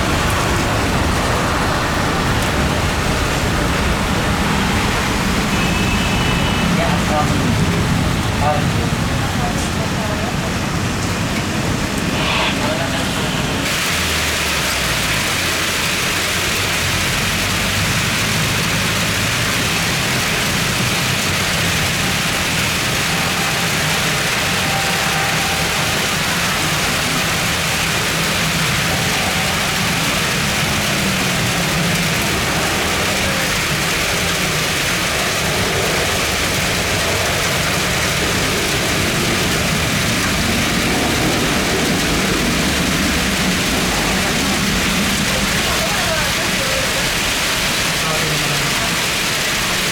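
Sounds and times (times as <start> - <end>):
heavy rain hissing: 0.0 - 49.9
jet engines rumbling: 0.0 - 49.9.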